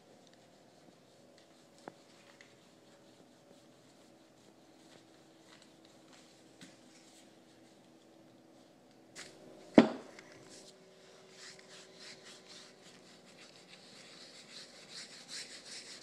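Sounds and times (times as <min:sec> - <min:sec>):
cloth rag rubbing wood: 0:00.4 - 0:07.8, 0:10.6 - 0:16.0.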